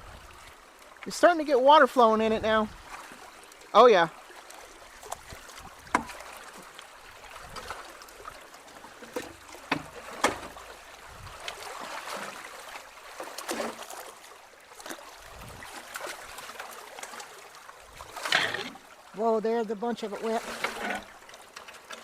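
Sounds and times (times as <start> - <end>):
creek water gurgling and trickling: 0.0 - 22.0.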